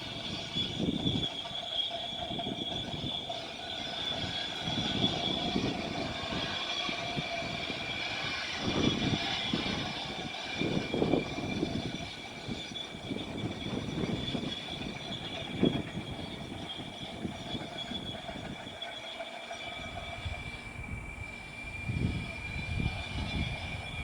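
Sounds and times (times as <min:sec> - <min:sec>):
whine-like high tones: 0:00.0 - 0:24.0.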